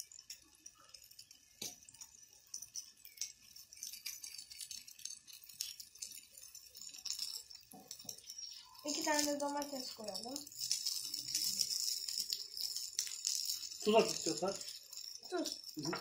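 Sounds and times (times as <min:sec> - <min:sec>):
faint crinkly rustling: 0:02.5 - 0:16.0.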